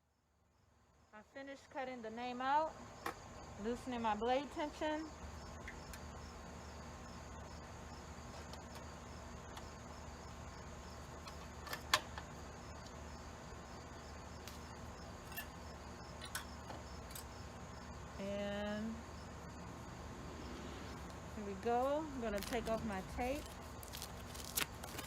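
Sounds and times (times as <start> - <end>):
steady low hum: 2.0 - 25.0.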